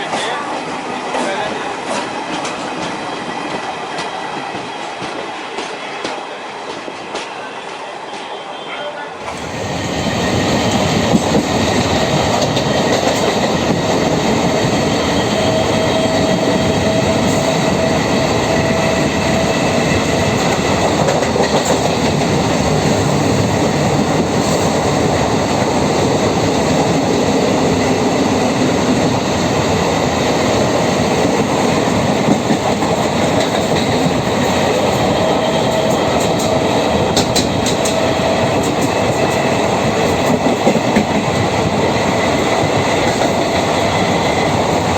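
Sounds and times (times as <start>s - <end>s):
train rumbling on rails: 0.0s - 8.5s, 9.1s - 44.9s.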